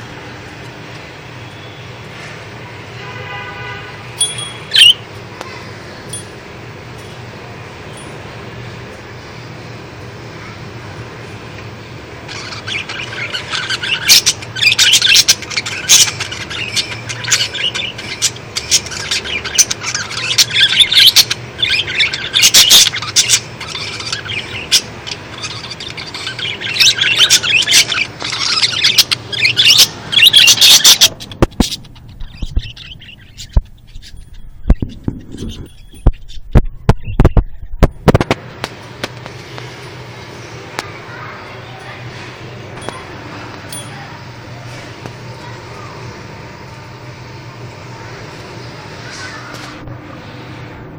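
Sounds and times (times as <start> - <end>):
lovebirds chirping and squawking: 4.0 - 9.7, 10.4 - 46.2.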